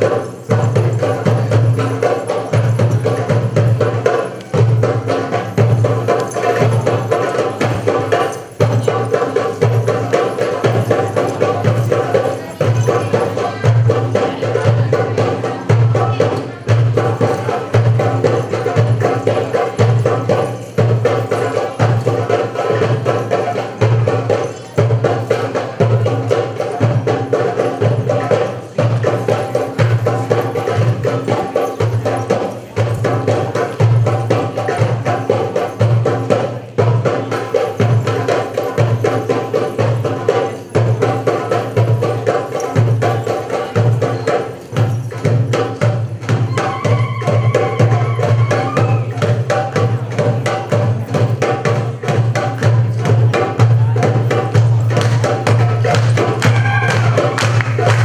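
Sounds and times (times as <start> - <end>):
hand drumming rhythm: 0.0 - 58.0.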